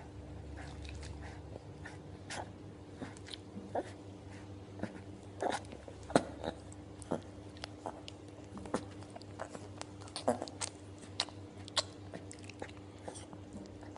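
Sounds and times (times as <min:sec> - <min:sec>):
faint steady low hum: 0:00.0 - 0:13.9.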